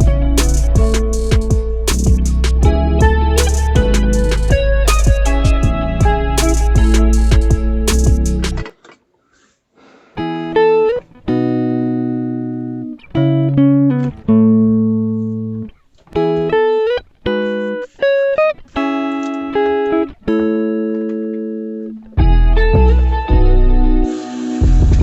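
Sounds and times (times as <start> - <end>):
slow guitar melody: 0.0 - 8.7, 10.2 - 25.0.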